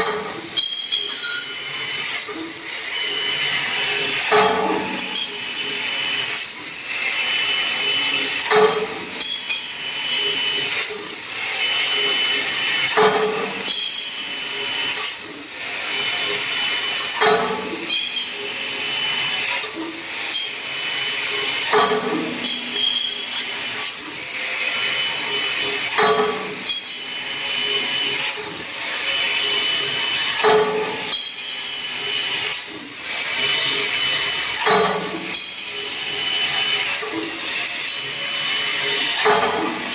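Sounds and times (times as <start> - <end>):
laser cutting machine hissing: 0.0 - 39.9.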